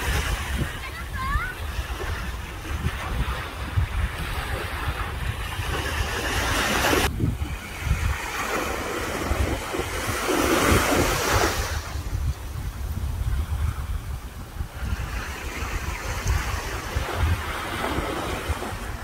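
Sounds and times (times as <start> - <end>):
small sea waves washing in: 0.0 - 19.0
wind rumbling on microphone: 0.0 - 19.0.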